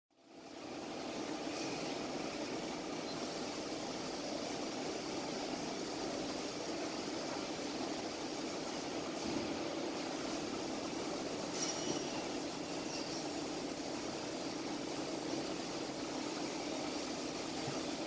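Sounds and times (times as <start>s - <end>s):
coolant spraying hiss: 0.3s - 18.0s.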